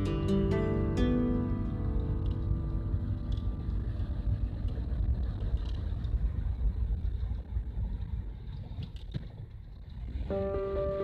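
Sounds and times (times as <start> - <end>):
van engine rumble: 0.0 - 11.0
wind noise: 0.0 - 11.0.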